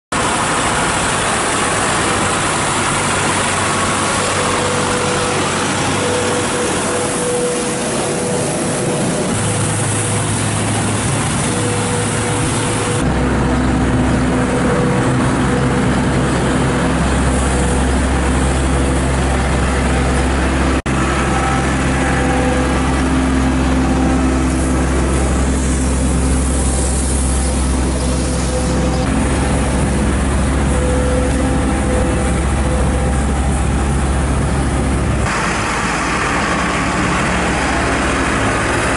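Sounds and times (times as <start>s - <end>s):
deep heavy engine rumble: 0.1s - 38.9s
diesel engines running: 0.1s - 38.9s.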